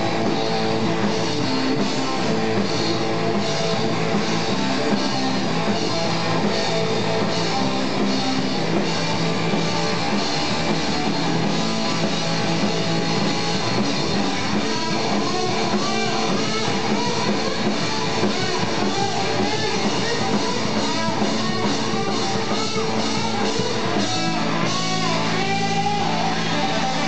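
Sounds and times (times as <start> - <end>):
drum kit: 0.0 - 27.0
electric guitars: 0.0 - 27.0.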